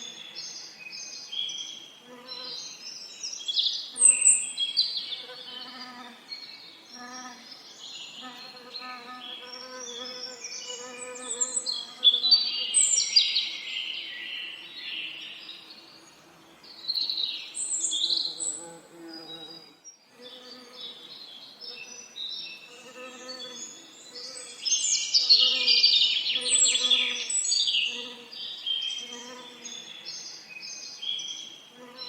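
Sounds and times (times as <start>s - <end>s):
songbirds chirping and trilling: 0.0s - 32.0s.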